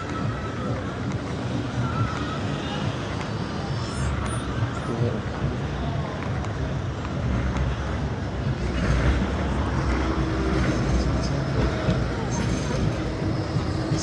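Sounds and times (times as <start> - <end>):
vehicles passing on busy street: 0.0 - 14.0.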